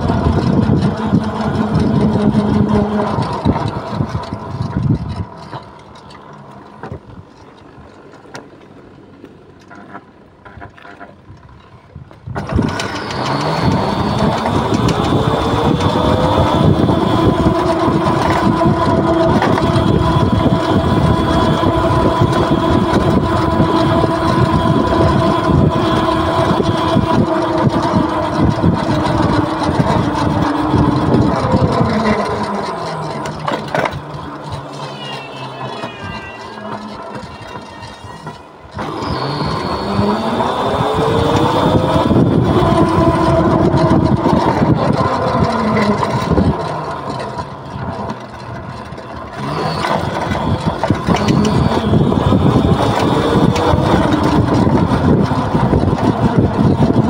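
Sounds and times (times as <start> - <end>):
electric motor whining: 0.0 - 7.0, 12.3 - 57.0
wind and road noise: 0.0 - 57.0.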